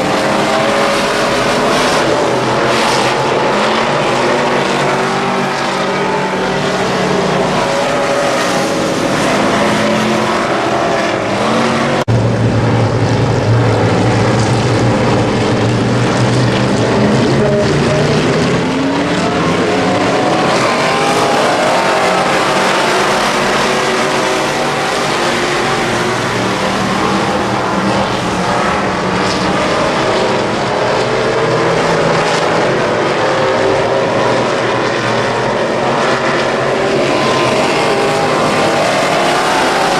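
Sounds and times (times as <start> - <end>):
race car engines racing: 0.0 - 39.9.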